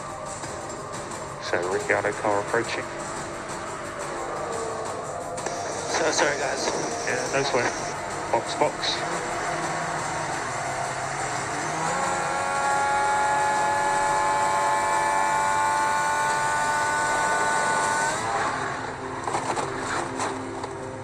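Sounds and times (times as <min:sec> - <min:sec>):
race car engine at full throttle: 0:00.0 - 0:21.0
car scraping: 0:00.4 - 0:21.0.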